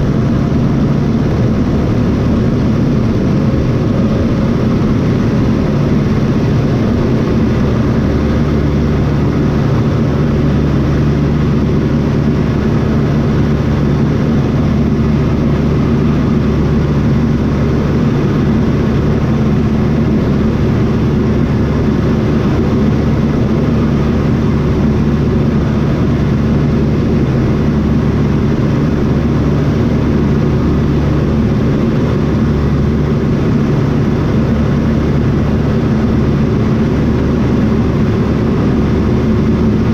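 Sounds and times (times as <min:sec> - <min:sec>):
propeller airplane engine running: 0:00.0 - 0:39.9.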